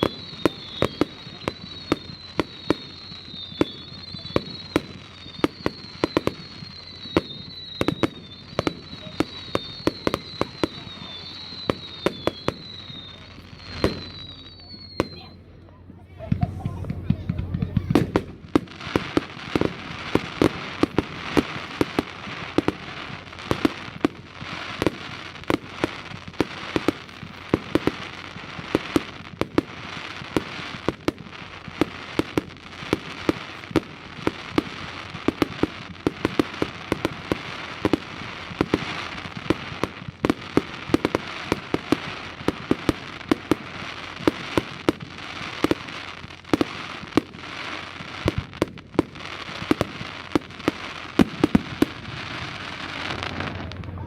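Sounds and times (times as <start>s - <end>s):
fireworks bangs: 0.0s - 54.0s
fireworks crackle: 0.0s - 54.0s.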